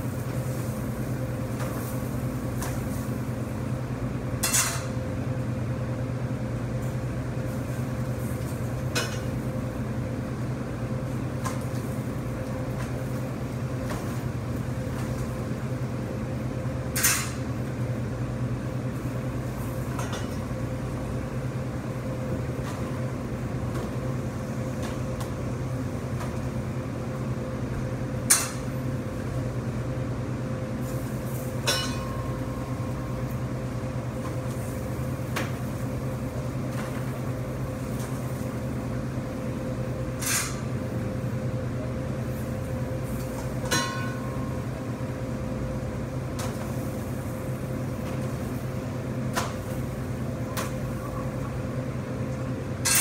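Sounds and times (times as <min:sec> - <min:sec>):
kitchen equipment hum: 0:00.0 - 0:53.0.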